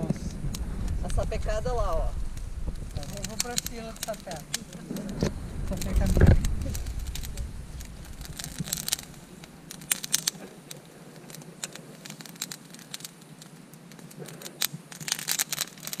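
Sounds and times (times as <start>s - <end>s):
fire hiss: 0.0s - 16.0s
leaves crackling in fire: 0.0s - 16.0s.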